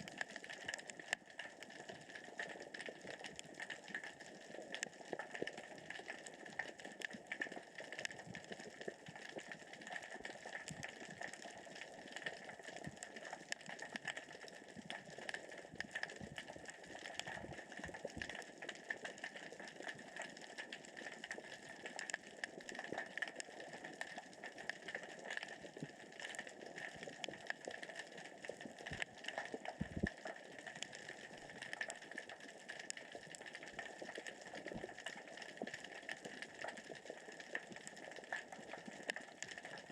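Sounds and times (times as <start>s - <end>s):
underwater rocks rolling and clicking: 0.0s - 39.9s.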